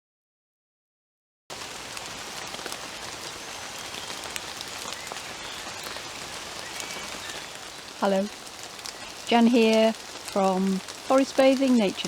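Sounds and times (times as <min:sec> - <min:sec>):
gentle rain patter: 0:01.5 - 0:12.0
water drips ticking: 0:01.5 - 0:12.0.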